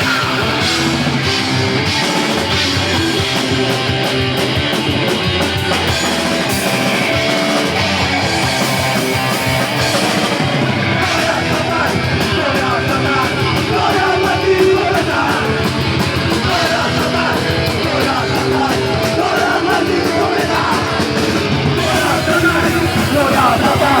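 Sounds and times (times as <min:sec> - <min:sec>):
vocals: 0:00.0 - 0:04.5, 0:05.5 - 0:24.0
heavy metal band playing: 0:00.0 - 0:24.0.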